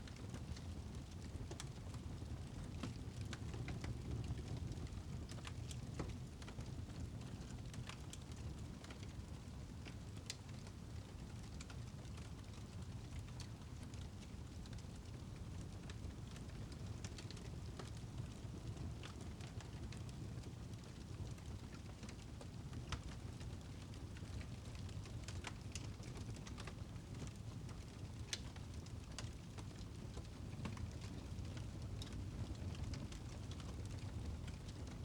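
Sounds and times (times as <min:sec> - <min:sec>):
fireplace fire crackling: 0:00.0 - 0:35.0.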